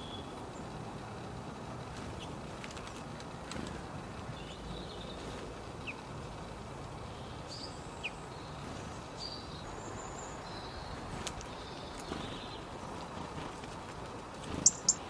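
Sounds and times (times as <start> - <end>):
low outdoor background noise: 0.0 - 15.0
small birds chirping: 0.0 - 15.0.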